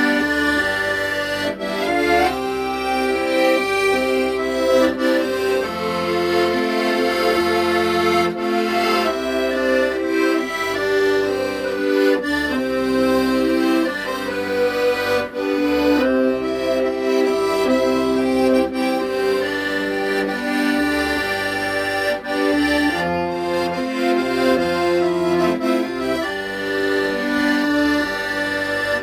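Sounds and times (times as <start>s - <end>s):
accordion playing slow melody: 0.0s - 29.0s.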